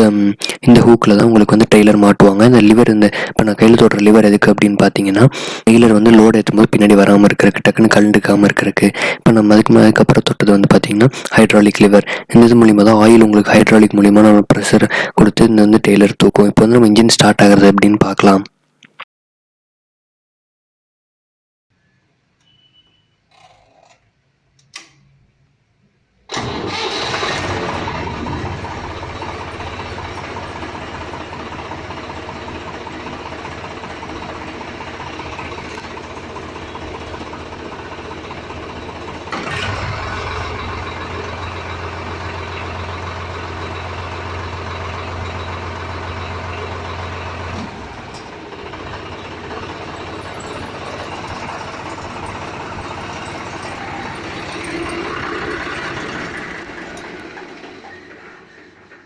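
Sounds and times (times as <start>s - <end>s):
tractor diesel engine running: 0.0s - 18.4s, 26.3s - 59.0s.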